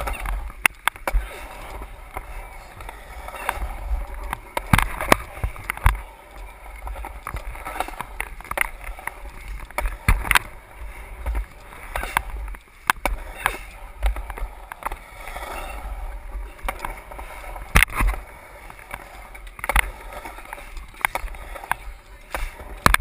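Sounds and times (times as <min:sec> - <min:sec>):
skateboard wheels clacking: 0:00.0 - 0:23.0
skateboard wheels on concrete: 0:00.0 - 0:23.0.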